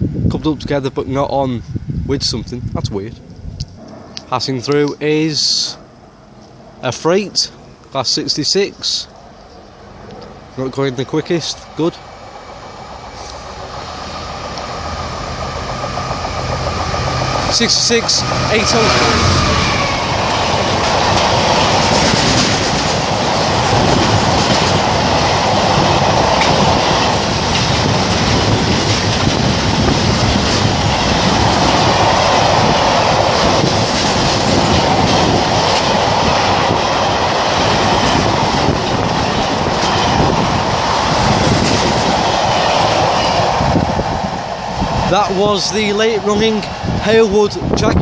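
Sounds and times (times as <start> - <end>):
train wheels on rails: 8.3 - 48.0.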